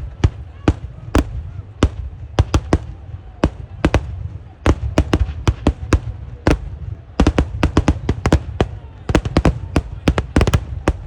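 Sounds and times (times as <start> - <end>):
continuous low rumble: 0.0 - 11.0
fireworks explosions: 0.0 - 11.0.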